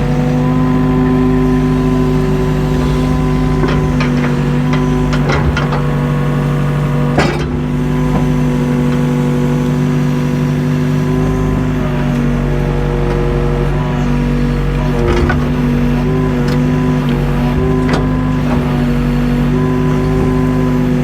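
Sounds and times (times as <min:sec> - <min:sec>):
excavator engine running: 0:00.0 - 0:21.0.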